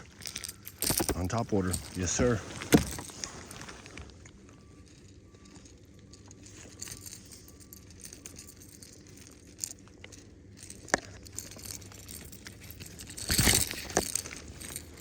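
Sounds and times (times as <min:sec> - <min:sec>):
rustling and crinkling handling: 0:00.0 - 0:15.0.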